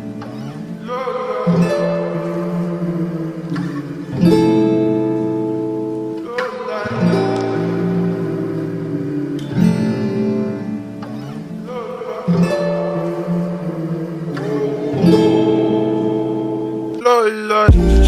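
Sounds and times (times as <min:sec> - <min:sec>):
guitar chords ringing: 0:00.0 - 0:18.0.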